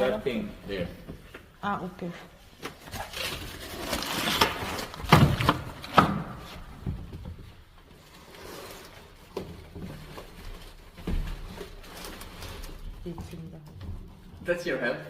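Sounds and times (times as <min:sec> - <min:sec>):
objects knocking and scraping: 0:02.5 - 0:14.7.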